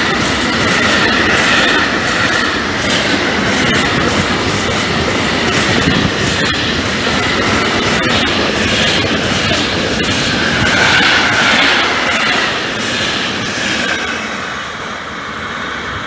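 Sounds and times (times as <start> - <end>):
wheels clacking over rail joints: 0.0 - 14.9
train wheels rolling on rail: 0.0 - 16.0.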